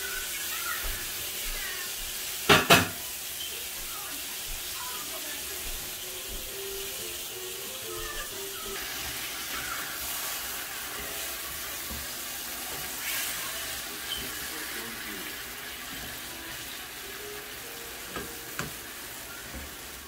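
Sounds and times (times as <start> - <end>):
fish sizzling in a frying pan: 0.0 - 20.0.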